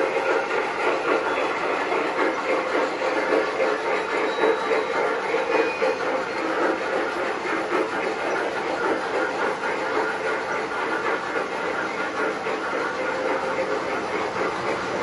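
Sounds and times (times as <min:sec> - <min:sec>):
model train wheels clattering: 0:00.0 - 0:15.0
steam chuff and hiss: 0:00.0 - 0:15.0.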